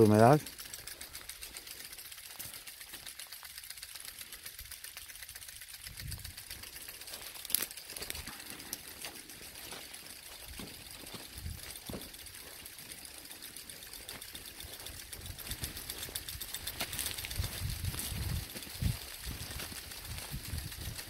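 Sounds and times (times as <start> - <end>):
rapid even ticking: 0.0 - 21.0.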